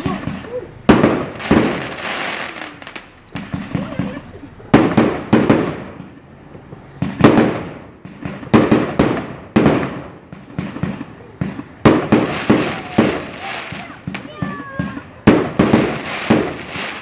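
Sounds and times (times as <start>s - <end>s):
firework shells bursting: 0.0s - 17.0s.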